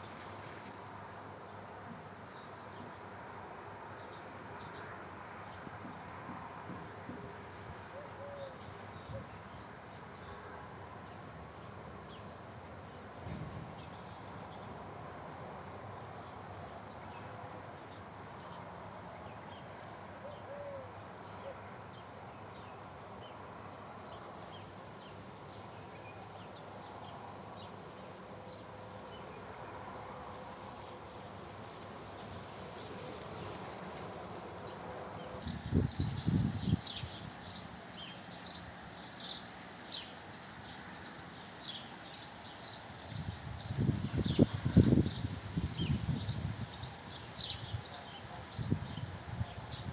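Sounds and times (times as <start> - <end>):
outdoor background hiss: 0.0 - 49.9.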